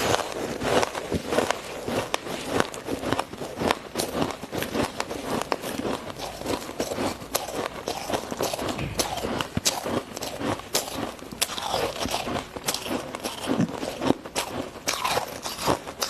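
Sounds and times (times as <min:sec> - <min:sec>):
ice crunched between teeth: 0:00.0 - 0:16.0.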